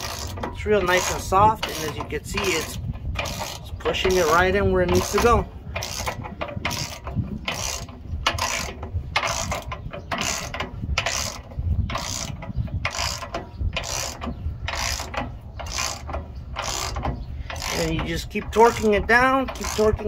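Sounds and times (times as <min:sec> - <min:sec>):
hand ratchet clicking: 0:00.0 - 0:20.0.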